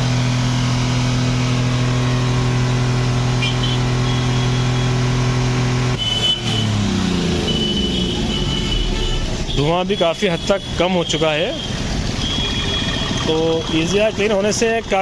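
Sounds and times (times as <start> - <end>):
diesel engine revving then idling: 0.0 - 15.0.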